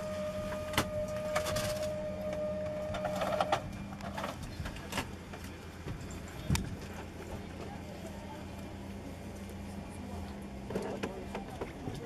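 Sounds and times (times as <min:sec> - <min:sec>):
steady whine: 0:00.0 - 0:11.0
cabin low hum: 0:00.0 - 0:11.2.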